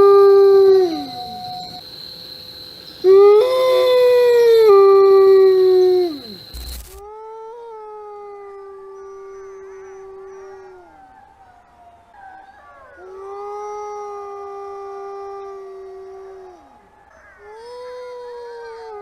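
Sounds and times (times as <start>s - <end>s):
wolves howling in chorus: 0.0s - 1.8s, 3.0s - 6.5s, 8.2s - 19.0s.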